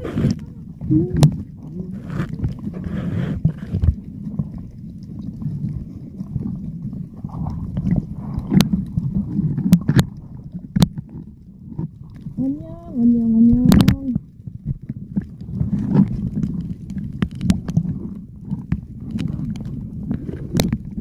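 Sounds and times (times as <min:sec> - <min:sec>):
underwater rumble of moving water: 0:00.0 - 0:21.0
underwater swishing: 0:00.0 - 0:21.0.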